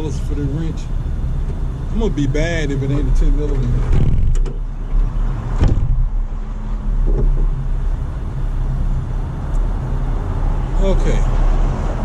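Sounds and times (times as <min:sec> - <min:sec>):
vehicle engine idling: 0:00.0 - 0:11.3.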